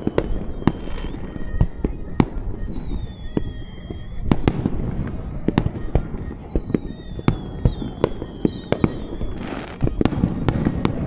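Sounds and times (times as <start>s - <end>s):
crackling hiss: 0.0s - 11.0s
firework whistles gliding downward: 0.0s - 11.0s.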